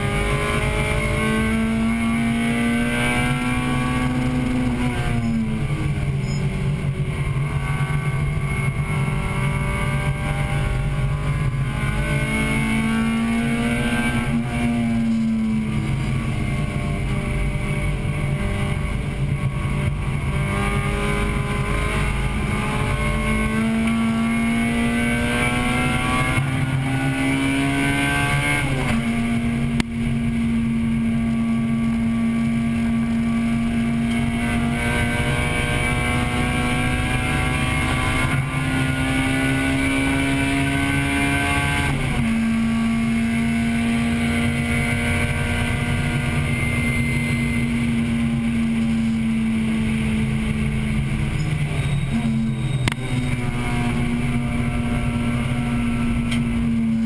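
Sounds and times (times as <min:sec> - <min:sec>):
car engine racing from inside cabin: 0:00.0 - 0:57.0.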